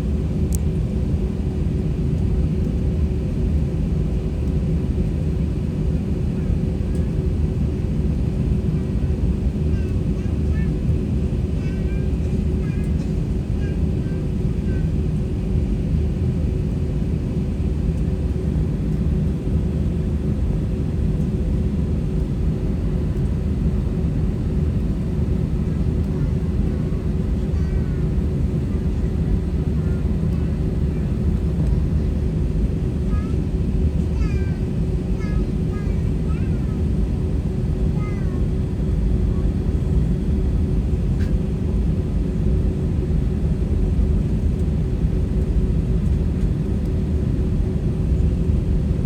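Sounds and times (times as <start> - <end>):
aircraft cabin engine rumble: 0.0 - 49.0
steady low hum: 0.0 - 49.0.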